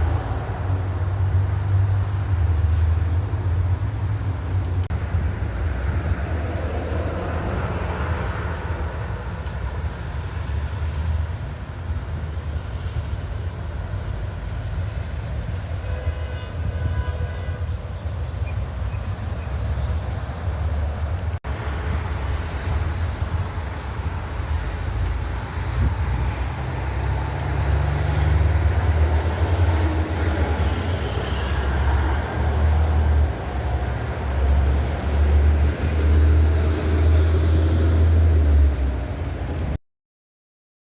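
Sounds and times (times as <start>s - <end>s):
heavy road traffic rumble: 0.0s - 39.8s
heavy trucks passing: 0.0s - 39.8s.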